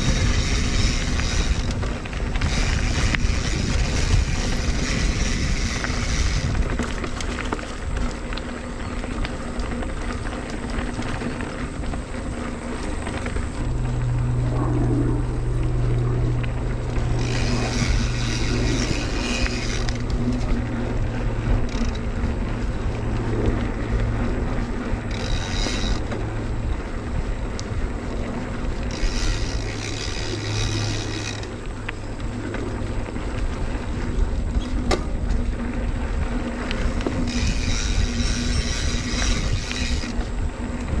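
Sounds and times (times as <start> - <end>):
bike rolling and rattling: 0.0 - 41.0.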